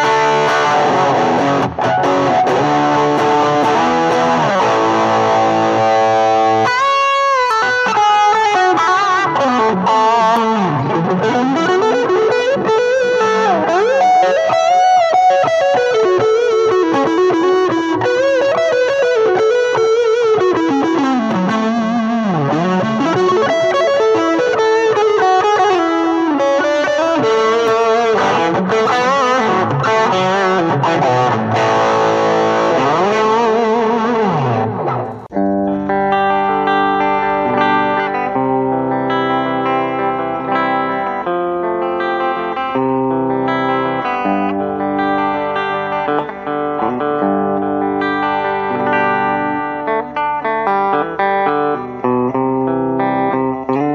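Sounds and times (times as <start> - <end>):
electric guitar lead melody: 0.0 - 53.9.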